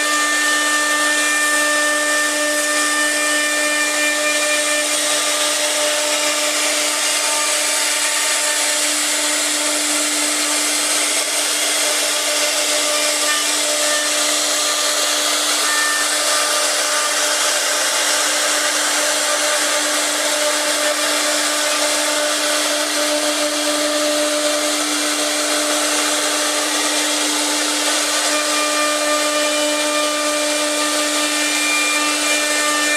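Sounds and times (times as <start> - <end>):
router spindle whine carving wood: 0.0 - 32.9.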